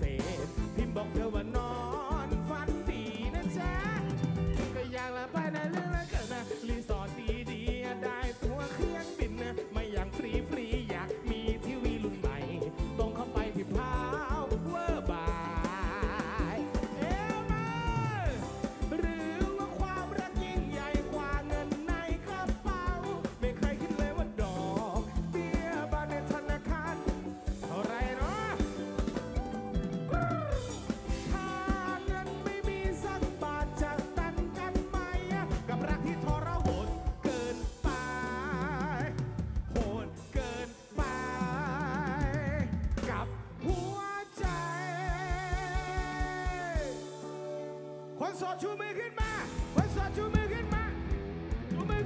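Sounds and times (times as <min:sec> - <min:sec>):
man singing: 0:00.0 - 0:47.4, 0:48.1 - 0:52.0
bass: 0:00.0 - 0:52.0
drums: 0:00.0 - 0:52.0
guitar: 0:00.0 - 0:52.0.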